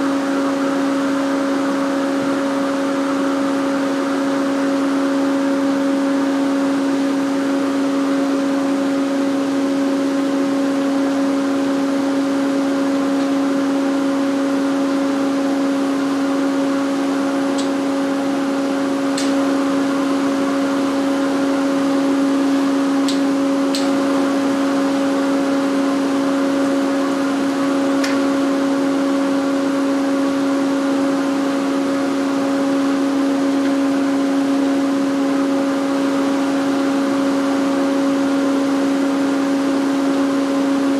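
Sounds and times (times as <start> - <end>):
woodshop machine humming: 0.0 - 40.9.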